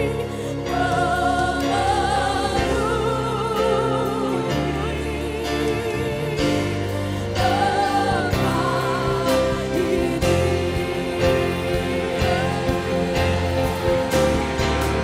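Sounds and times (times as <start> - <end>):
bass: 0.0 - 15.0
drums: 0.0 - 15.0
keyboard chords: 0.0 - 15.0.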